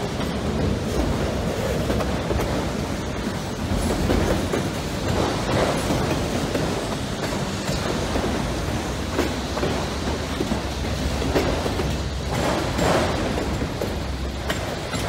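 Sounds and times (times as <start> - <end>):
train wheels rumbling on rails: 0.0 - 15.0
wheels clacking: 0.0 - 15.0.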